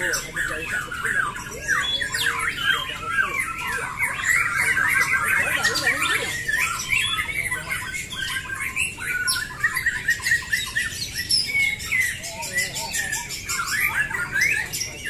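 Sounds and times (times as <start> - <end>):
many birds singing: 0.0 - 15.0.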